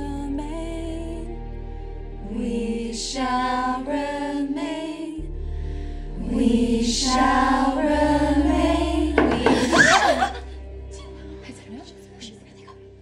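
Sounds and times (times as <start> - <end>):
voices singing slow chant: 0.0 - 11.4.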